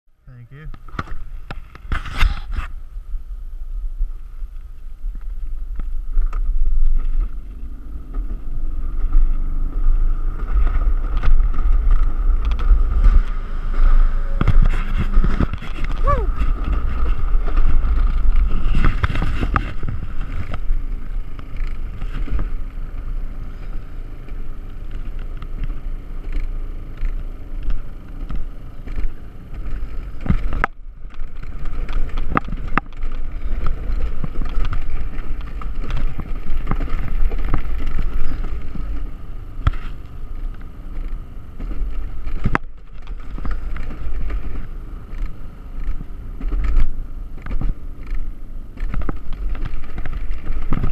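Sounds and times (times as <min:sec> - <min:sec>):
sled wheels rumbling on rail: 0:00.2 - 0:50.9
rattles and clicks: 0:04.5 - 0:50.9.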